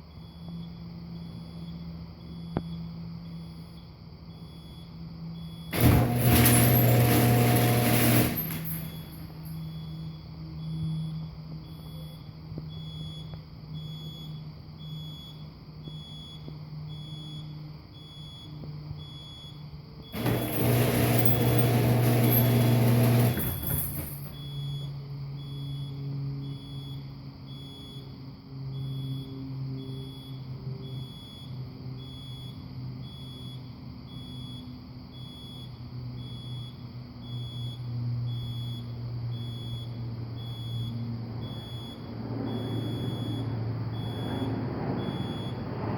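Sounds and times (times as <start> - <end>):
high warning beeps: 1.2 - 28.2, 28.8 - 45.7.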